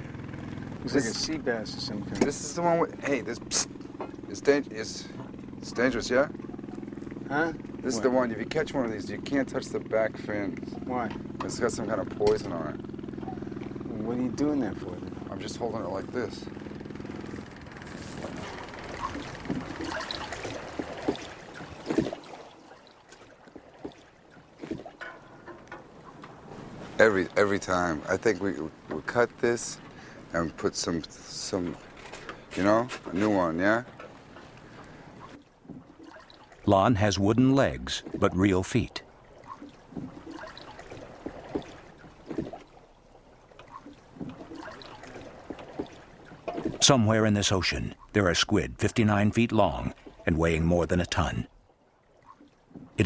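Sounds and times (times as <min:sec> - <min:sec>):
water splashing around boat: 0:00.0 - 0:53.0.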